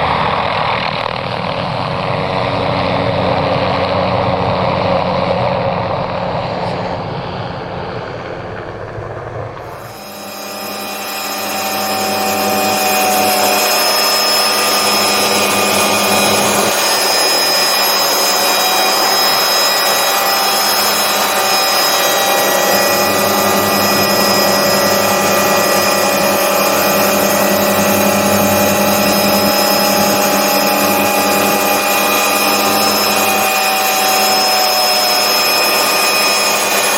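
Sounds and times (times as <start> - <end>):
helicopter turbine whine: 0.0 - 36.9.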